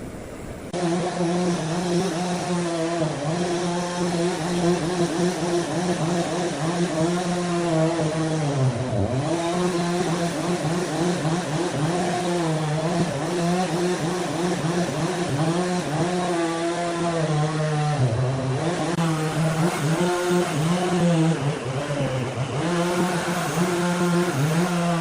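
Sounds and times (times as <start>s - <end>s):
handheld power tool running: 0.8s - 25.0s.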